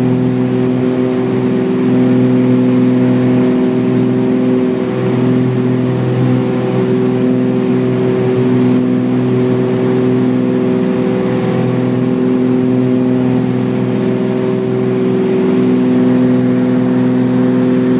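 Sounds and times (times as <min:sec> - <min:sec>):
aircraft engine droning in cabin: 0:00.0 - 0:17.9.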